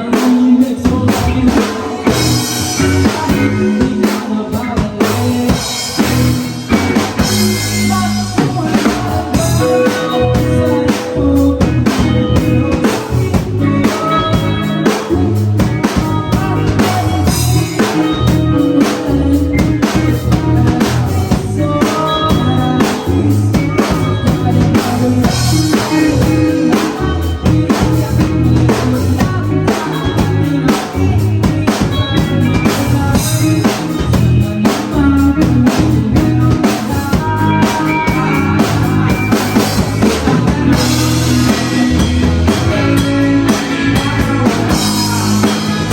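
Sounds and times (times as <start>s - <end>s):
band playing rock music: 0.0s - 45.9s
drum kit beat with rimshots: 0.0s - 45.9s.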